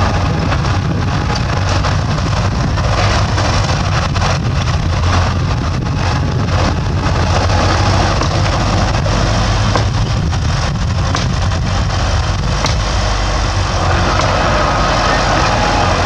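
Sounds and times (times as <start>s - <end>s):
knocks and rattles: 0.0s - 15.8s
bulldozer diesel engine running: 0.0s - 16.0s.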